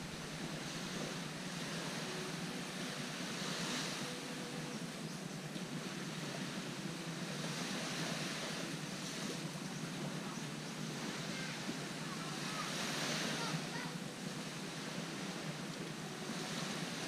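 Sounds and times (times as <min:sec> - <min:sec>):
small waves washing onto beach: 0:00.0 - 0:17.0.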